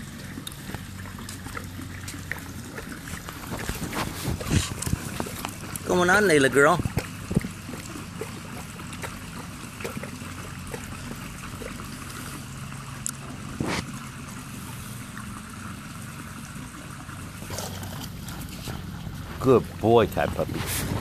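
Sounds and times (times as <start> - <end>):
dog lapping water: 0.0 - 21.0
small splashes: 0.0 - 21.0
water sloshing and trickling: 0.0 - 21.0.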